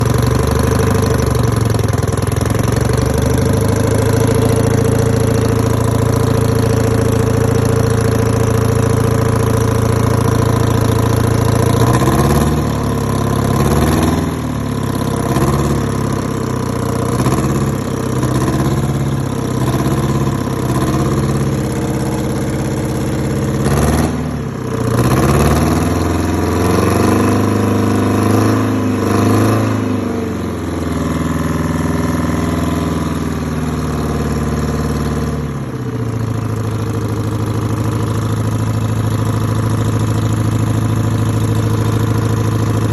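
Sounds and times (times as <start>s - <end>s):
tractor diesel engine revving: 0.0s - 42.9s.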